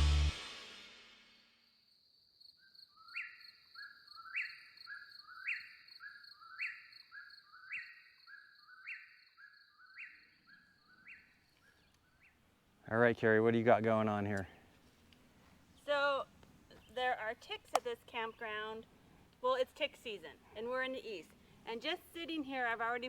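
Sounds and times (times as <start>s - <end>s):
songbird singing: 2.6s - 23.0s.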